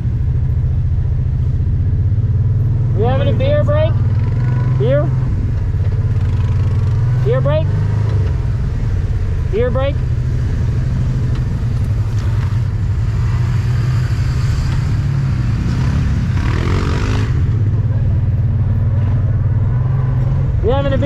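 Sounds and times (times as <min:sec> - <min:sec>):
off-road vehicle engine droning: 0:00.0 - 0:21.0.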